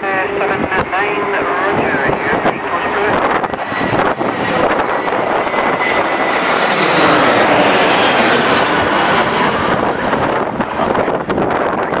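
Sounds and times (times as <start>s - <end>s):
airliner engines passing: 0.0s - 12.0s
faint jet whine: 0.0s - 12.0s.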